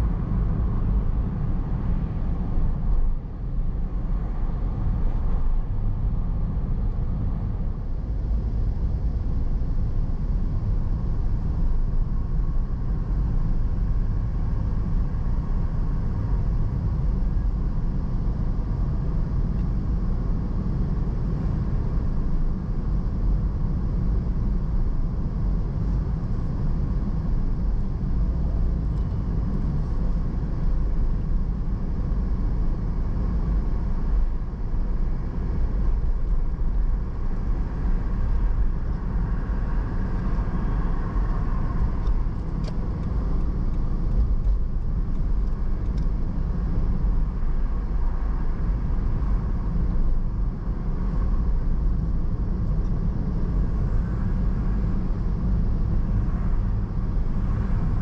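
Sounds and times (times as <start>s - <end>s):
car road and wind rumble: 0.0s - 58.0s.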